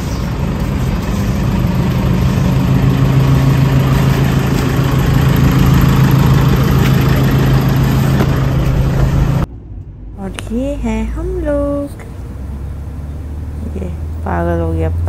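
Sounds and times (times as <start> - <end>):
minibus engine idling: 0.0 - 15.0.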